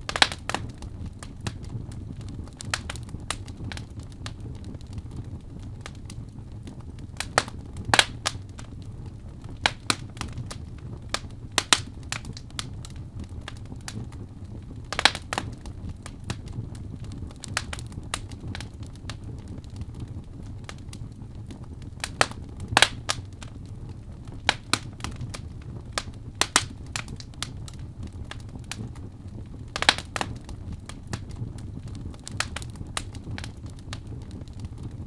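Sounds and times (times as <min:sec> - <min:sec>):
low steady fire rumble: 0:00.0 - 0:35.0
wood fire crackling and popping: 0:00.0 - 0:35.0.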